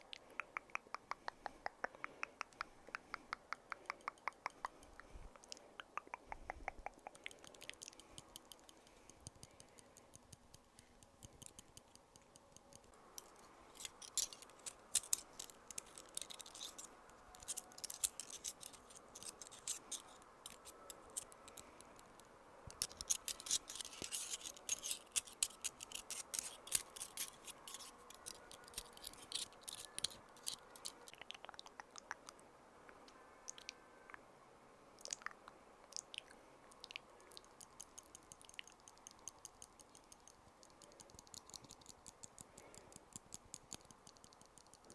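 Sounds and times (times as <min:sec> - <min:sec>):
crisp clicks and scratches: 0:00.0 - 0:32.4, 0:35.0 - 0:44.9.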